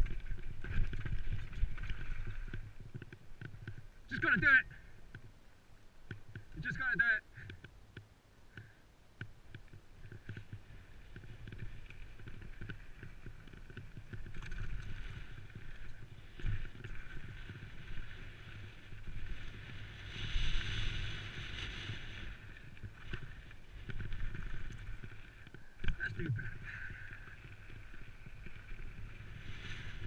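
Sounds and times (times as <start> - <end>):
bike tyres rumbling on stones: 0.0 - 4.0, 9.6 - 30.0.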